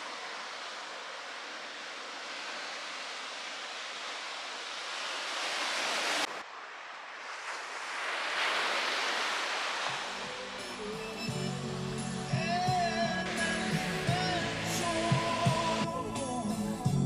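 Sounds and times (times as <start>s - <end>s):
ocean surf washing in: 0.0s - 16.9s.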